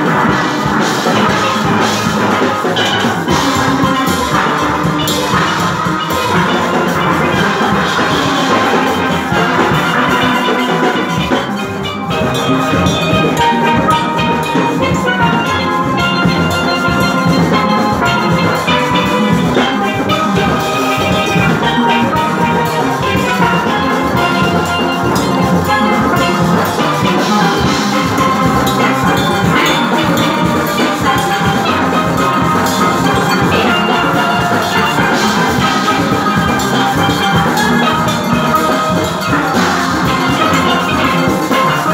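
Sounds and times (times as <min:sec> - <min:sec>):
drums and percussion: 0:00.0 - 0:41.9
steel pans playing: 0:00.0 - 0:41.9.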